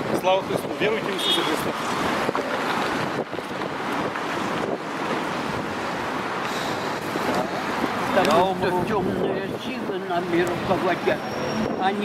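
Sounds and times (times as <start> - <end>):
wind blowing across microphone: 0.0 - 12.0.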